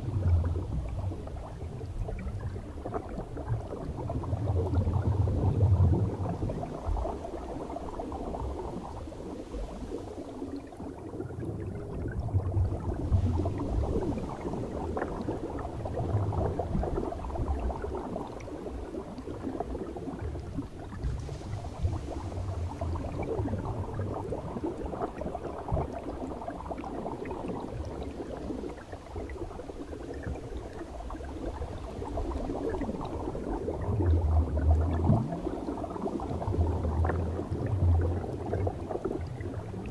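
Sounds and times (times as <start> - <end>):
muffled underwater bubbling: 0.0 - 39.9.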